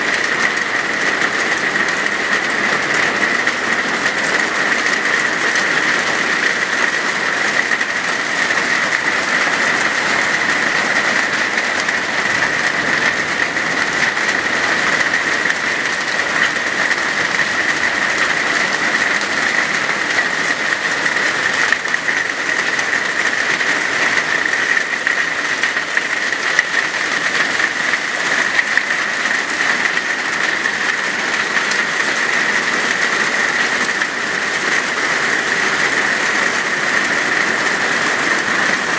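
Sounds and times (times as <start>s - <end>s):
hail and rain pelting tiles: 0.0s - 38.9s.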